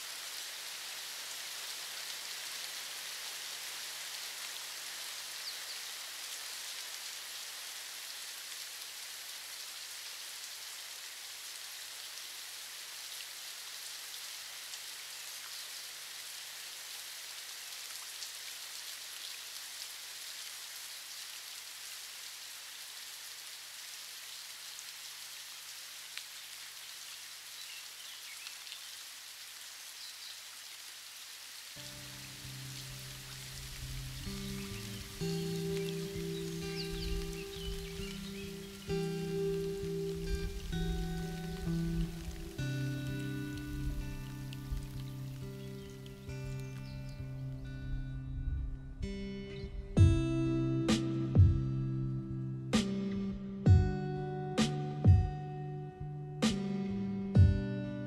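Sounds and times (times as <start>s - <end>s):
steady rain-like hiss: 0.0s - 58.0s.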